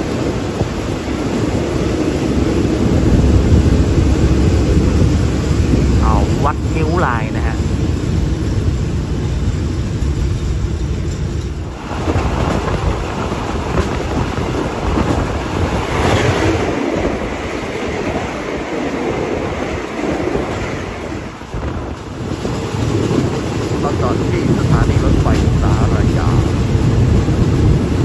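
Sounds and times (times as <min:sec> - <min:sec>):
passing train rushing: 0:00.0 - 0:28.0
train running noise from inside: 0:00.0 - 0:28.0.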